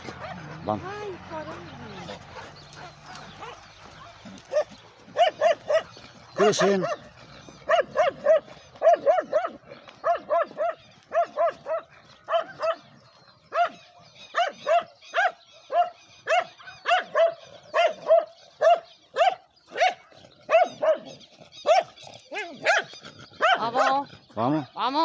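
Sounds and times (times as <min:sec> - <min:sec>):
dog barking: 0:00.0 - 0:00.8, 0:02.8 - 0:12.9, 0:13.5 - 0:24.1.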